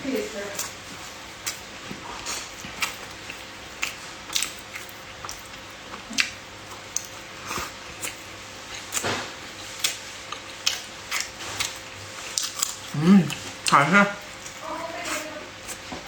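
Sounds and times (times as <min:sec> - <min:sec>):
person chewing food: 0:00.6 - 0:16.0.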